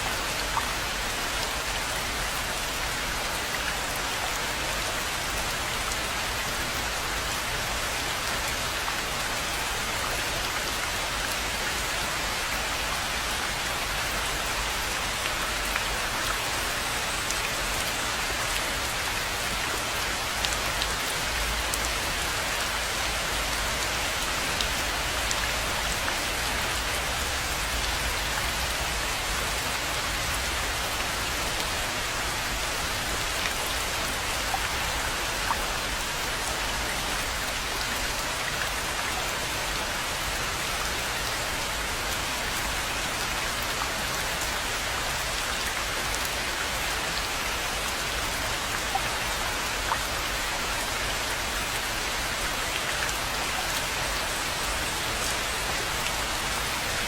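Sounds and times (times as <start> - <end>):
rain pattering on a pond: 0.0 - 57.0.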